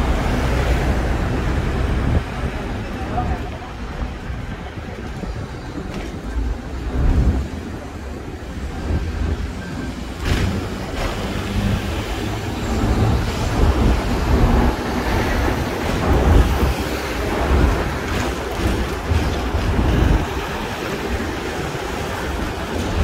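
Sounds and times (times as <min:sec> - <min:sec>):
tram rumbling on track: 0:00.0 - 0:23.0.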